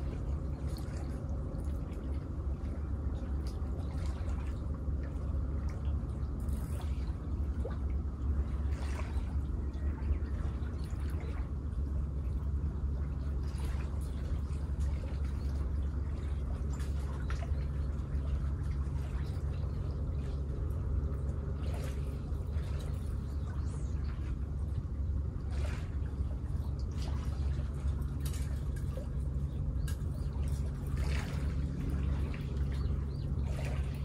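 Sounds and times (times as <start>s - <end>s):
faint water splashes: 0.0s - 34.0s
steady low rumble: 0.0s - 34.0s
water lapping at shore: 0.0s - 34.0s.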